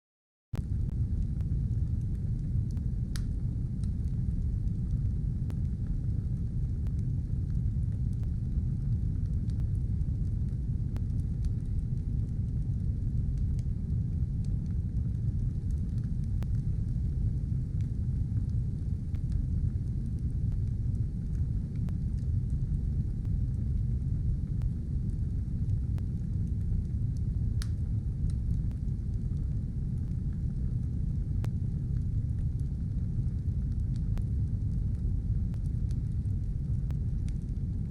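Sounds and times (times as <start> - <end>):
fire crackling and popping: 0.6 - 37.9
low rumble of flames: 0.6 - 37.9.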